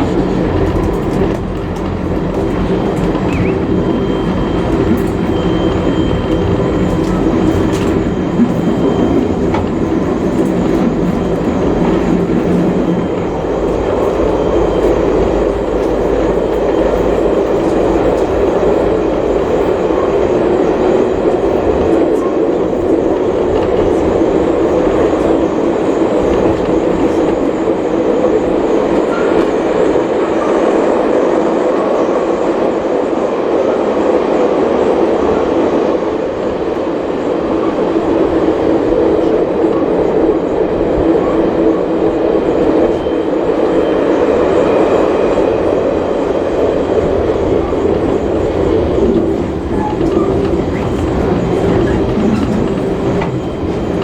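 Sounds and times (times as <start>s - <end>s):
train carriage rumbling and rattling: 0.0s - 54.0s.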